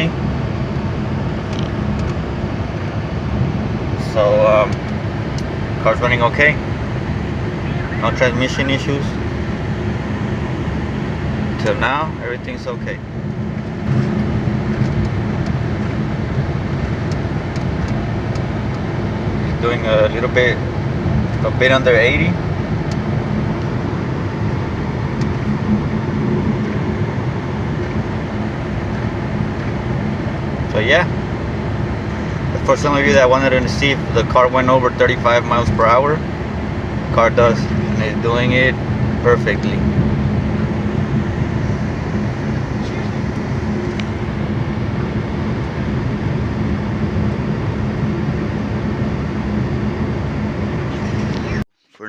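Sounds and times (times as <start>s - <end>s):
road and wind noise: 0.0s - 51.7s
low engine drone: 0.0s - 52.0s.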